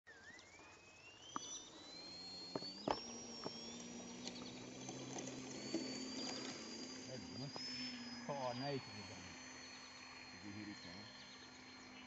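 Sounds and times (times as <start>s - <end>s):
model airplane motor whine: 0.0s - 12.0s
low steady hum: 0.1s - 12.0s.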